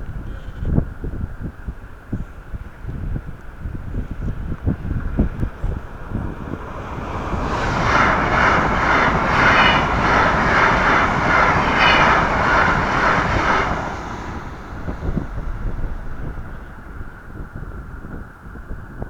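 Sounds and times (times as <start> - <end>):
electric train passing: 2.6 - 18.5.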